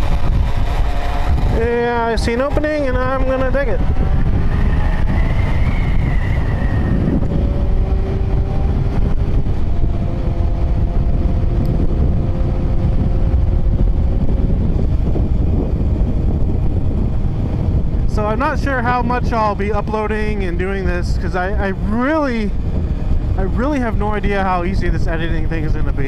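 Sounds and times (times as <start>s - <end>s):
motorcycle engine drone: 0.0s - 26.0s
wind rushing over microphone: 0.0s - 26.0s.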